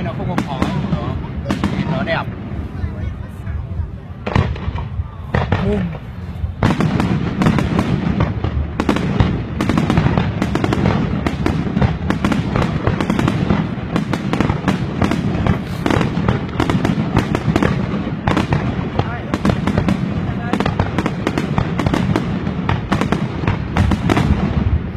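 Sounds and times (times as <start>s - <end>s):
deep rumble of bursting shells: 0.0s - 2.8s, 4.1s - 24.9s
fireworks bangs and crackles: 0.0s - 24.9s.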